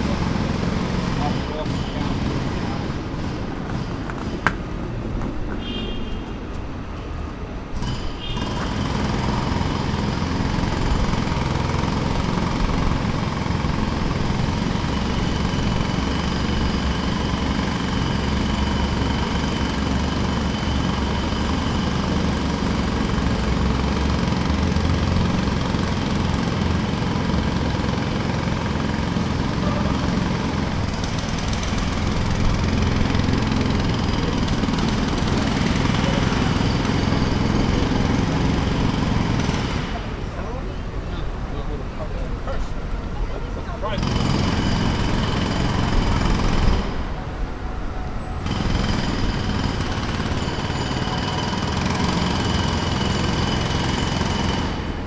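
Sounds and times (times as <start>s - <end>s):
jackhammer running: 0.0s - 4.8s, 7.6s - 47.5s, 48.2s - 55.0s.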